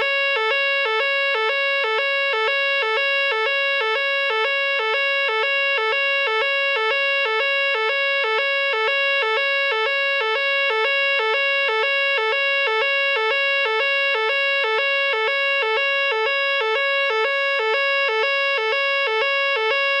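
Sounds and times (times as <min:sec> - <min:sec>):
two-tone fire alarm sounder: 0:00.0 - 0:20.0.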